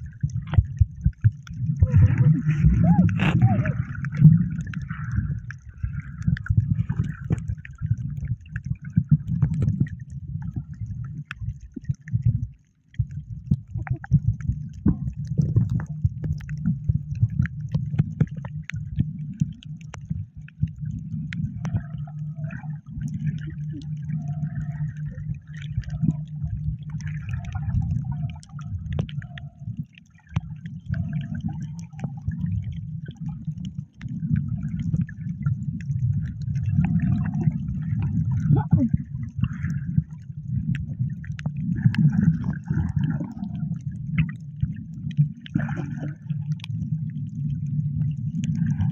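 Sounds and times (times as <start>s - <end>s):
muffled water sloshing: 0.0s - 48.9s
steady low rumble: 0.0s - 48.9s.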